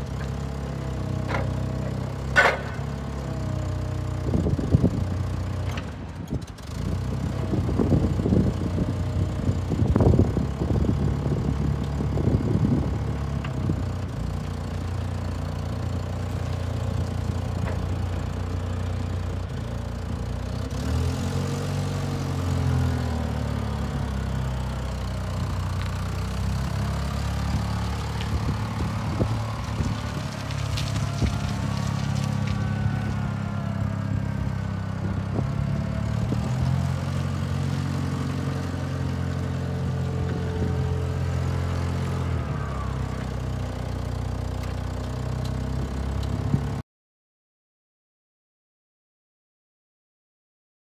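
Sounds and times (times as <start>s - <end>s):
forklift engine running: 0.0s - 46.8s.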